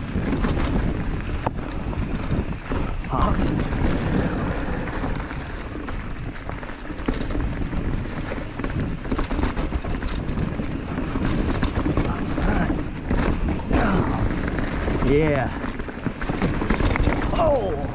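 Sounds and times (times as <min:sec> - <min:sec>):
bike knocks and rattles: 0:00.0 - 0:17.9
bike tyres rumbling over rock: 0:00.0 - 0:17.9
wind rumble on microphone: 0:00.0 - 0:17.9.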